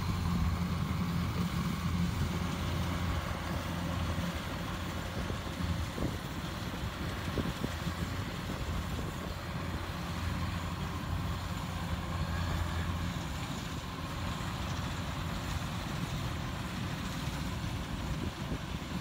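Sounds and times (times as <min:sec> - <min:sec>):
combine harvester engine droning: 0:00.0 - 0:19.0.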